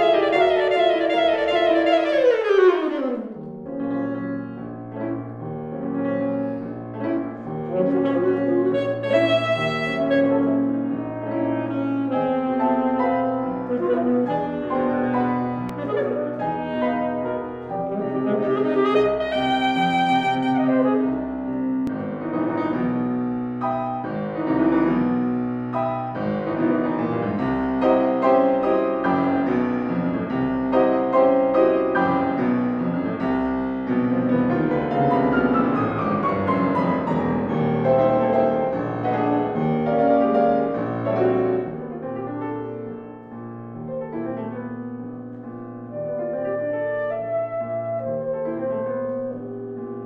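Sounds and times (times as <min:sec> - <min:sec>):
grand piano solo: 0:00.0 - 0:50.0.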